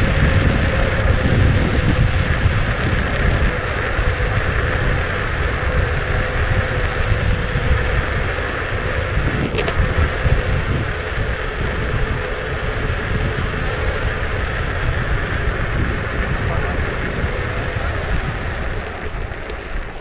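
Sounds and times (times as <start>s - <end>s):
faint electric motor whine: 0.0s - 20.0s
tyres rumbling on road: 0.0s - 20.0s
wind buffeting: 0.0s - 20.0s.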